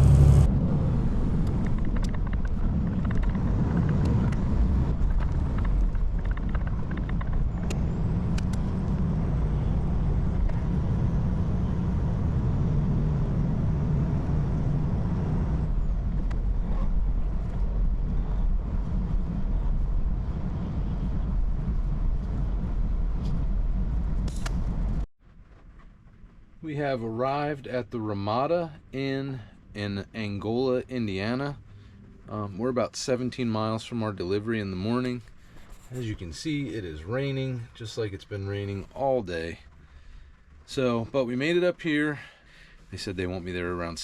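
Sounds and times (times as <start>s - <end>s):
truck engine and road rumble: 0.0s - 44.0s.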